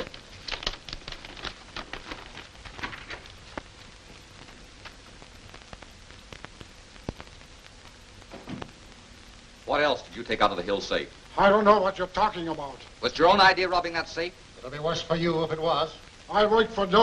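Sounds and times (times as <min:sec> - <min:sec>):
film soundtrack hiss and crackle: 0:00.0 - 0:17.0.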